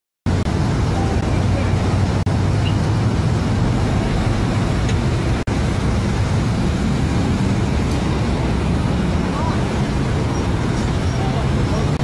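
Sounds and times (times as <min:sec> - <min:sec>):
low engine hum: 0:00.3 - 0:12.0
road traffic noise: 0:00.3 - 0:12.0.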